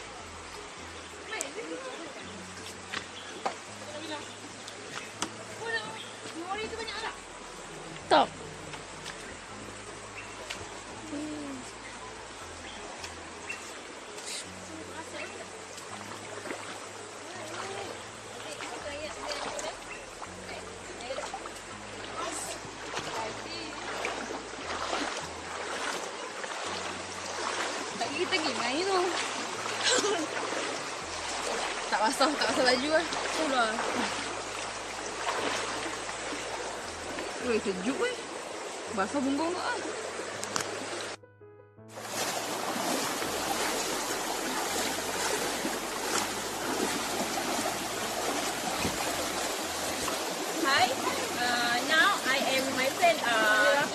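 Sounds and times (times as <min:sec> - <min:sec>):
river water rushing: 0:00.0 - 0:41.2, 0:41.9 - 0:53.9.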